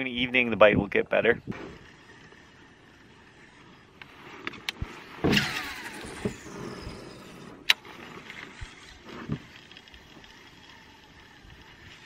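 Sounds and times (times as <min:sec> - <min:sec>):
reel spool whirring: 0:00.0 - 0:12.0
reel being cranked: 0:01.5 - 0:04.8, 0:05.4 - 0:12.0.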